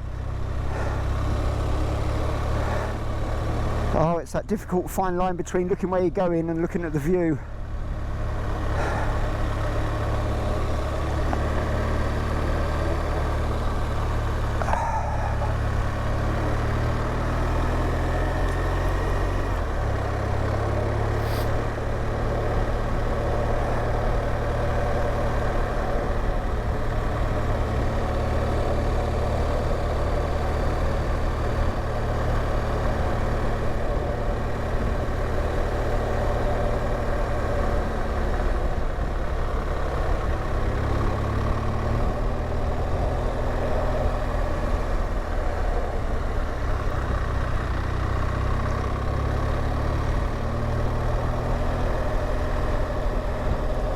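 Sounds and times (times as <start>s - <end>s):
motorcycle engine running: 0.0s - 4.2s, 7.4s - 53.9s.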